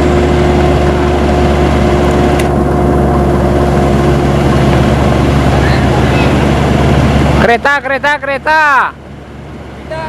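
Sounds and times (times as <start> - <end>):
large vehicle engine humming: 0.0 - 10.0.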